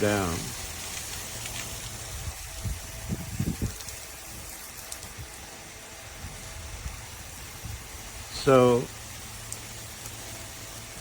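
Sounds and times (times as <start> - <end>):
shower water spraying: 0.0 - 11.0.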